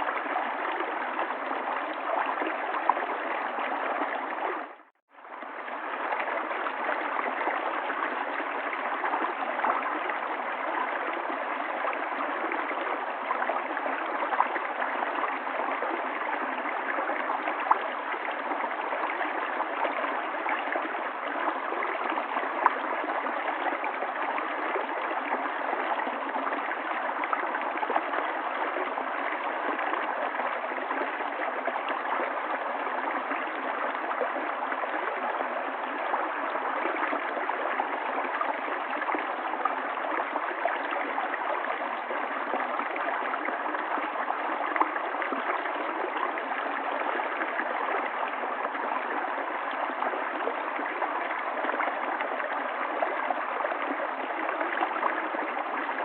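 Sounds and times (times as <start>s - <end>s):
river babbling over stones: 5.4s - 56.0s.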